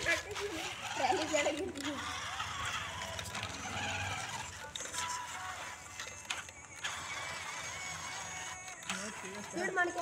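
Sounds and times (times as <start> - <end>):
toy electric motor whirring: 0.0 - 10.0.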